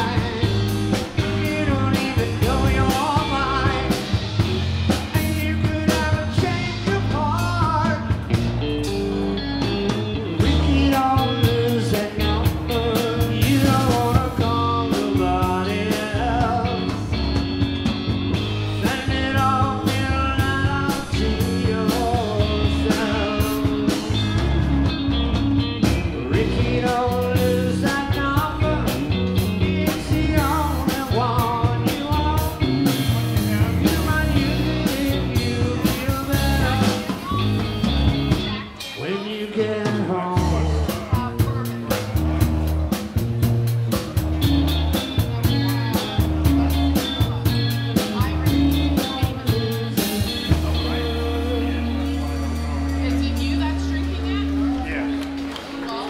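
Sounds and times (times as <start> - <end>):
drum kit beat: 0.0 - 55.5
electric guitar: 0.0 - 56.0
live rock band: 0.0 - 56.0.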